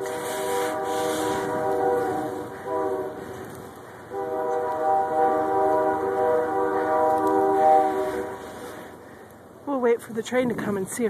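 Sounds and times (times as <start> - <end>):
train horn chord: 0.0 - 9.2
wind gusting on microphone: 0.0 - 9.6.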